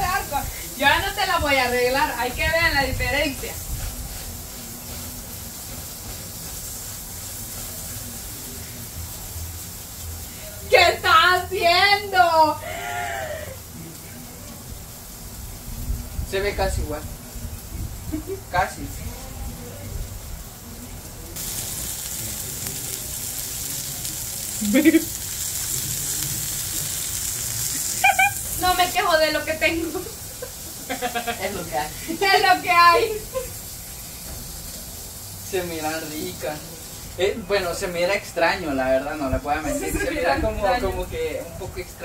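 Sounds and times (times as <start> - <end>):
food sizzling on a griddle: 0.0 - 42.0.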